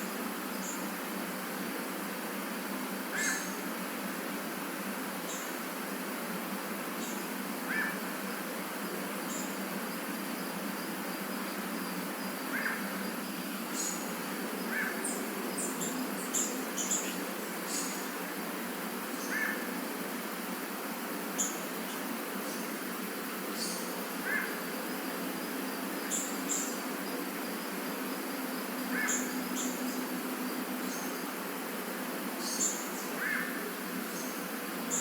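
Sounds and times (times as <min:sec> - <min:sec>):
insects hissing: 0:00.0 - 0:35.0.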